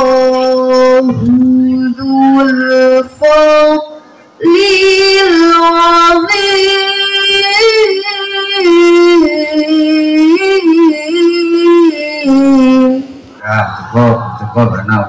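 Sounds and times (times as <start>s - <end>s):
girl reciting melodically over pa: 0.0s - 15.0s.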